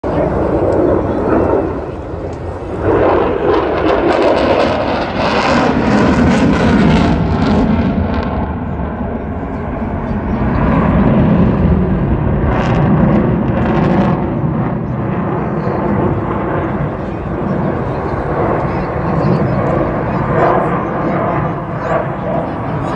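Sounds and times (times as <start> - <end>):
fighter jet engines roaring: 0.0 - 22.9.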